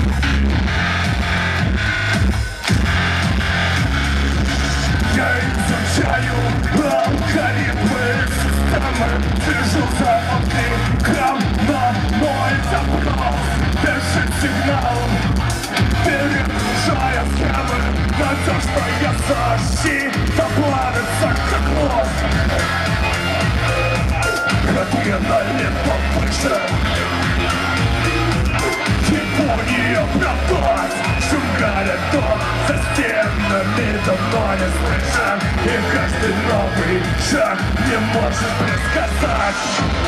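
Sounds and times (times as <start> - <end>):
rock band playing live: 0.0 - 40.0
singer shouting vocals: 4.6 - 40.0.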